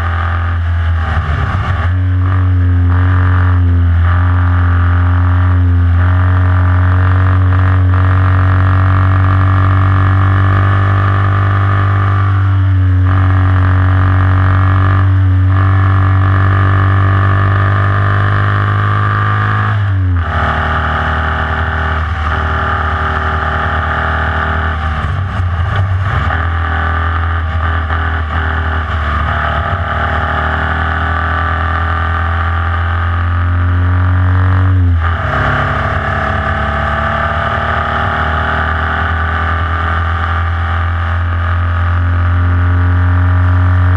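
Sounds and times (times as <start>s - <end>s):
racing car engine at full throttle: 0.0s - 43.9s.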